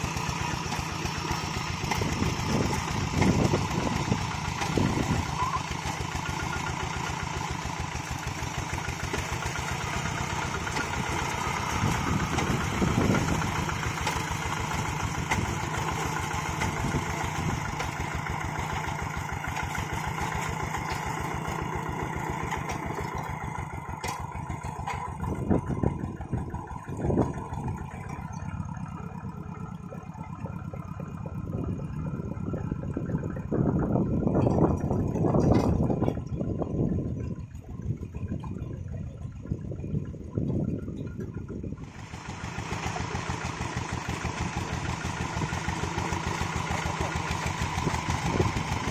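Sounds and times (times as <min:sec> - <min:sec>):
diesel engine chugging: 0:00.0 - 0:48.9.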